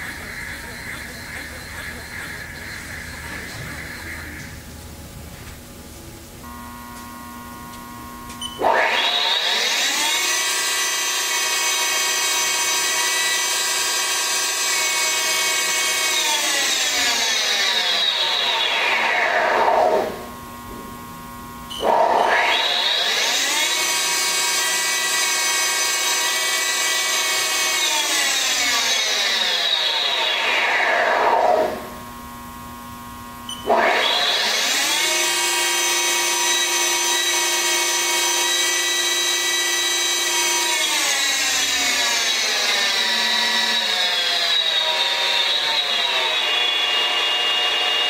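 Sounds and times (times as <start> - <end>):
lathe spindle motor whine: 0.0 - 4.6, 6.4 - 48.0.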